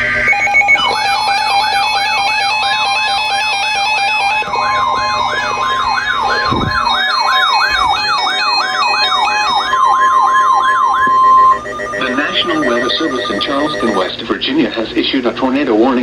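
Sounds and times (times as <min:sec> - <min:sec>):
siren-like sweeping alert tone: 0:00.0 - 0:14.6
steady high alert tone: 0:00.0 - 0:14.8.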